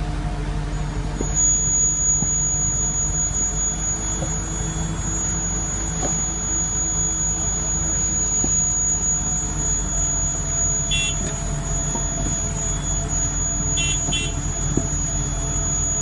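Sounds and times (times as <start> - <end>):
heavy machine engine droning: 0.0 - 16.0
high electronic beeps: 1.2 - 16.0.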